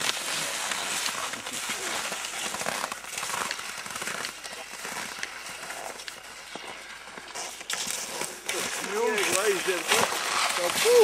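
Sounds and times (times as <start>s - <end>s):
skis crunching on snow: 0.0s - 11.0s.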